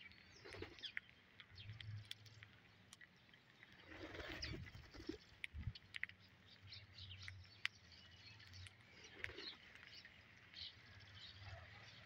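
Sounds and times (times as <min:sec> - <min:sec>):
beaks pecking on concrete: 0:00.0 - 0:12.0
birds chirping: 0:00.0 - 0:12.0.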